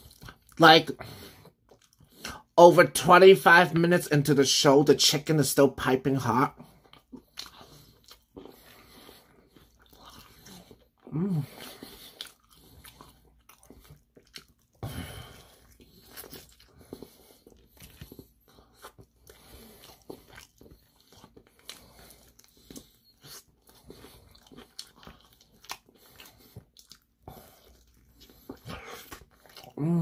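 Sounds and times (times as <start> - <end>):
chewing crispy fried chicken: 0.0 - 2.6, 5.5 - 30.0.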